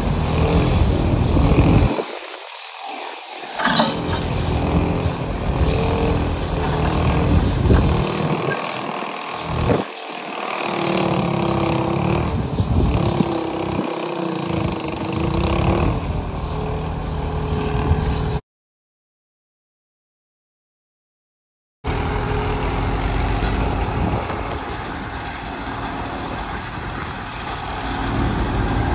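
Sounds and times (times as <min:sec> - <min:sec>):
excavator machinery running: 0:00.0 - 0:18.4, 0:21.9 - 0:28.9
gear whine: 0:00.0 - 0:18.4, 0:21.9 - 0:28.9.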